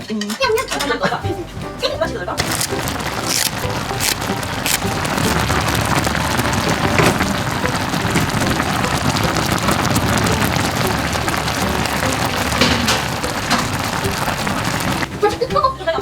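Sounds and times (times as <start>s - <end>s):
food sizzling in a frying pan: 2.4s - 16.0s.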